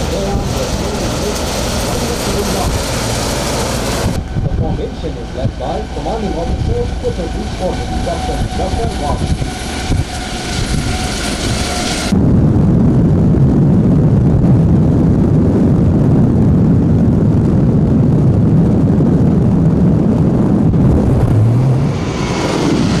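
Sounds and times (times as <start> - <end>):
helicopters flying overhead: 0.0 - 23.0.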